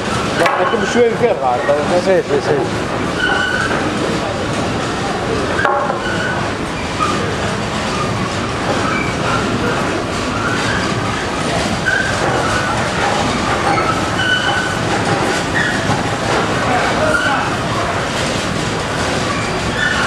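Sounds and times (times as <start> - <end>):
mill machinery running: 0.0 - 20.0.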